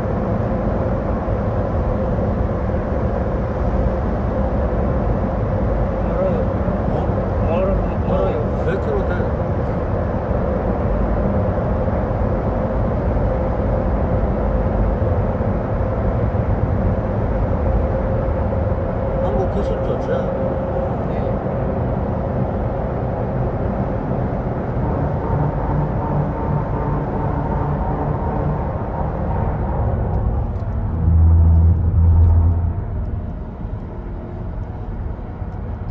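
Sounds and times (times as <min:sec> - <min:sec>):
car road noise: 0:00.0 - 0:35.9
moving vehicle rumble: 0:00.0 - 0:35.9.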